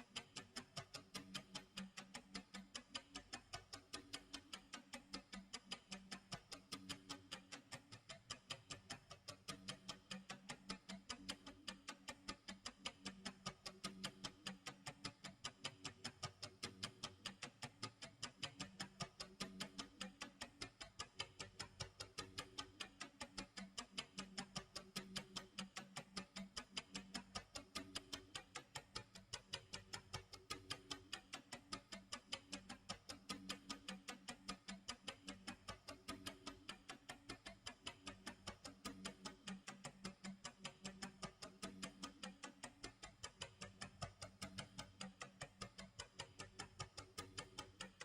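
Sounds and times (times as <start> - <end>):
clock ticking: 0.1 - 48.0.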